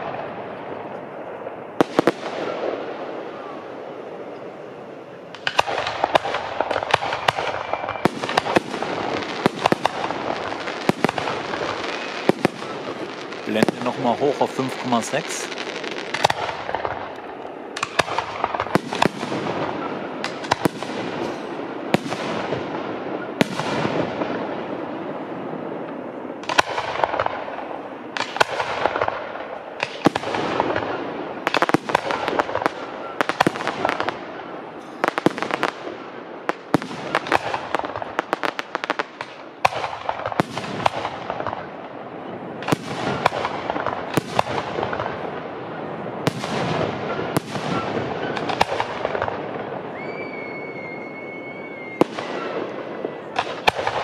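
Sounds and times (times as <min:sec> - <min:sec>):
fireworks bangs: 0:00.0 - 0:54.0
fireworks crackle: 0:00.0 - 0:54.0.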